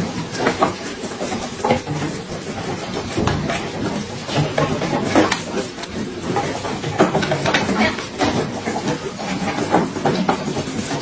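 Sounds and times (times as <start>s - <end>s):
deer fawns clattering on wooden rack: 0.0s - 11.0s.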